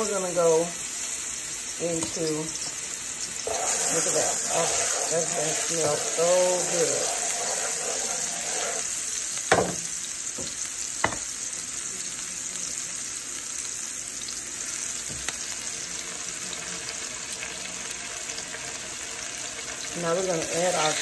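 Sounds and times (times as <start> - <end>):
garlic sizzling in oil: 0.0 - 21.0.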